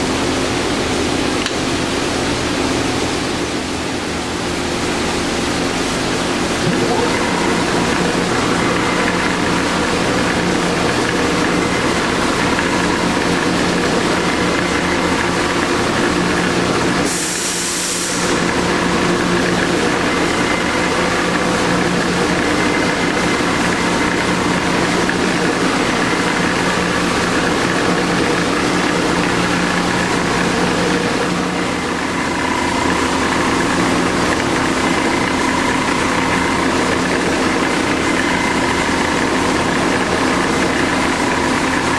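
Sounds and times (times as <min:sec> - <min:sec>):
lathe motor hum: 0:00.0 - 0:41.9.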